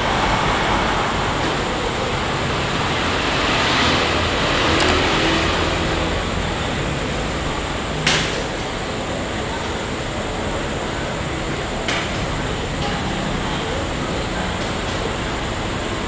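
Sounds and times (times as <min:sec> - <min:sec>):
train at a station: 0:00.0 - 0:16.0.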